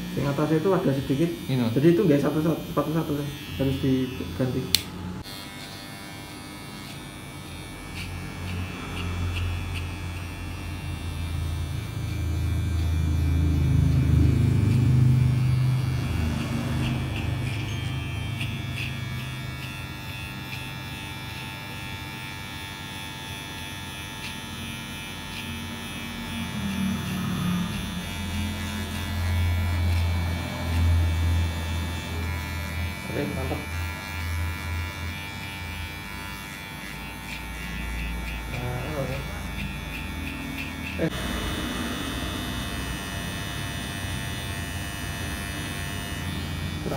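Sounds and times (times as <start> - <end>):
electric hair clipper buzzing: 0.0 - 46.9.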